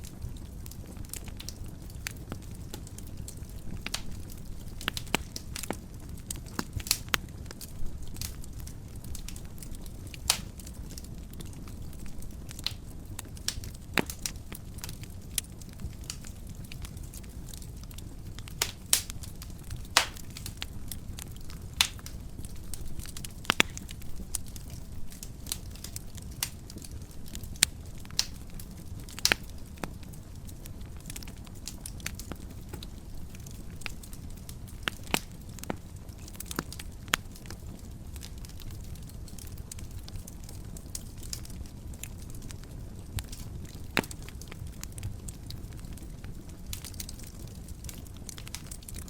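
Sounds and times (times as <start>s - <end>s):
fire crackling and popping: 0.0s - 49.0s
low rumble of flames: 0.0s - 49.0s.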